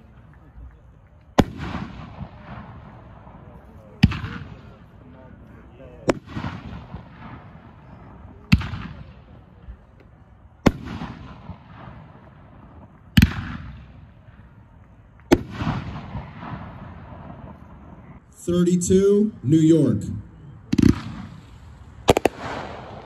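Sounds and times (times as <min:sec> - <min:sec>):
fireworks bangs: 0:00.0 - 0:05.4, 0:06.0 - 0:09.9, 0:10.6 - 0:18.2, 0:20.7 - 0:23.0.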